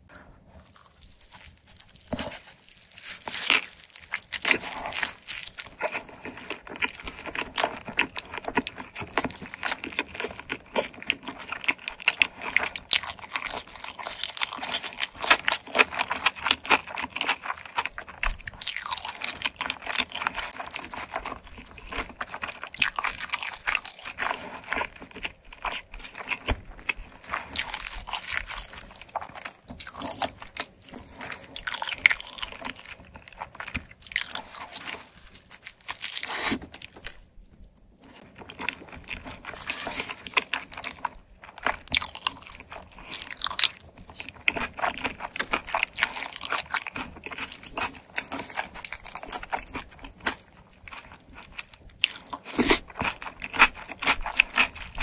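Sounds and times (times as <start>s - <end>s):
chewing crunchy pizza crust: 0.2s - 55.0s.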